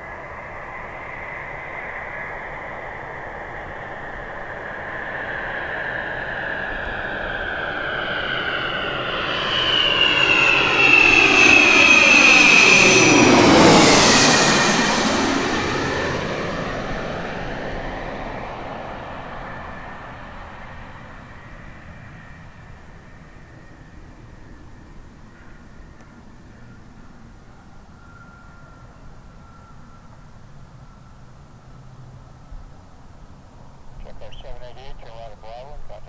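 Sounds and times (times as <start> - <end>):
jet turbofan whine: 0.0 - 36.0.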